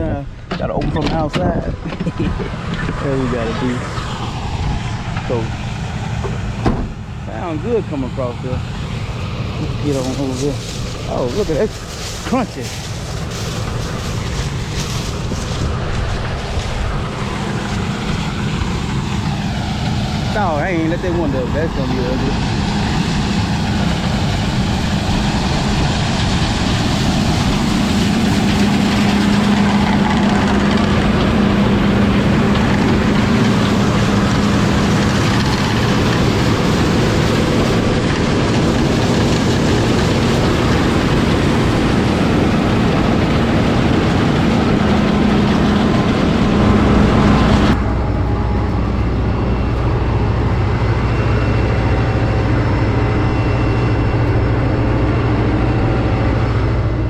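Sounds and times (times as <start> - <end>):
combine engine and threshing noise: 0.0 - 57.0.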